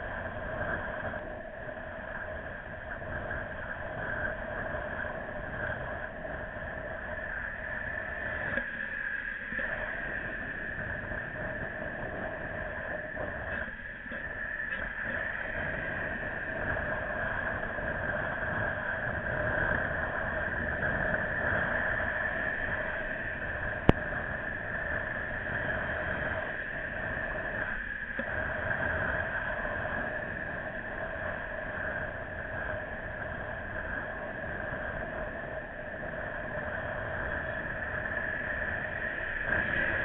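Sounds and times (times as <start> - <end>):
wind and road rush: 0.0 - 40.0.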